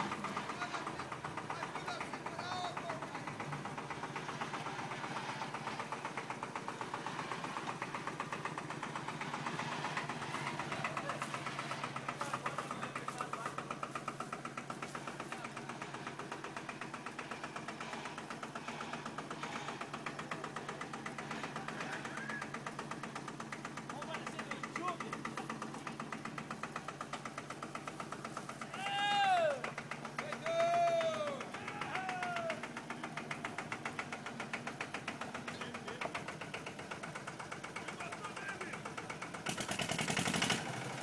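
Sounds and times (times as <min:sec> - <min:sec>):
tractor engine clattering: 0:00.0 - 0:41.0
trailer on gravel: 0:00.0 - 0:41.0.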